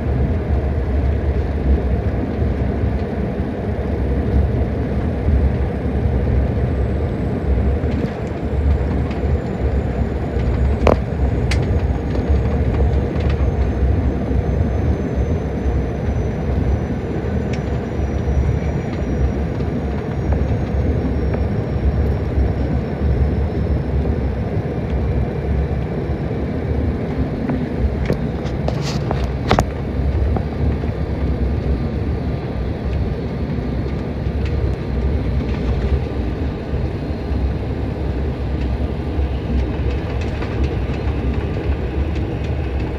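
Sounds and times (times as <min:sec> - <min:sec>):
airliner cabin engine rumble: 0:00.0 - 0:42.9
faint high whine: 0:03.8 - 0:42.9.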